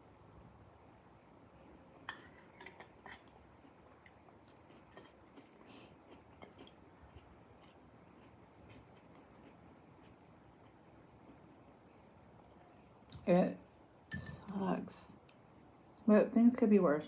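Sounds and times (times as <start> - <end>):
faint chewing of food: 0.1 - 13.3, 15.2 - 16.1.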